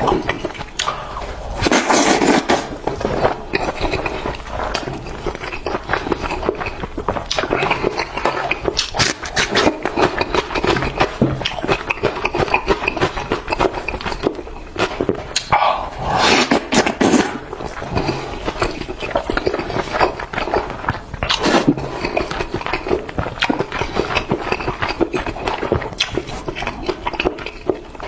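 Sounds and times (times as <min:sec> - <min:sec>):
person chewing chicken: 0:00.0 - 0:28.0.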